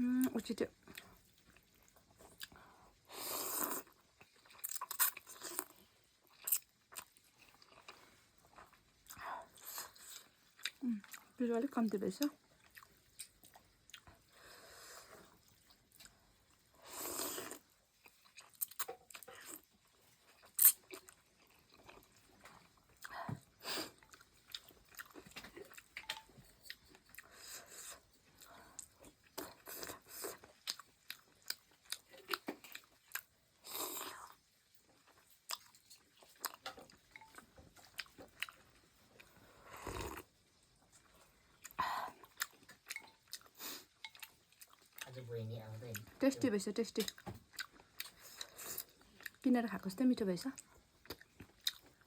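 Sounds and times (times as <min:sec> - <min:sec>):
person chewing noodles: 0:00.8 - 0:11.4, 0:12.4 - 0:45.2, 0:45.8 - 0:46.3, 0:47.0 - 0:49.4, 0:50.6 - 0:52.0.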